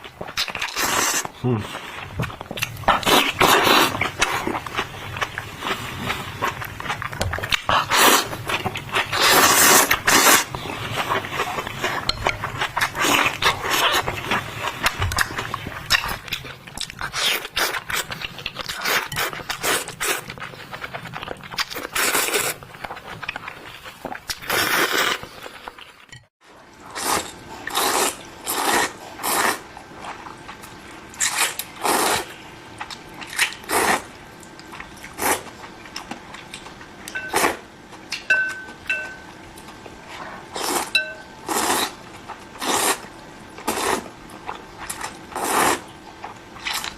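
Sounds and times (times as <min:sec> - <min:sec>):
person chewing and slurping noodles: 0:00.0 - 0:46.9.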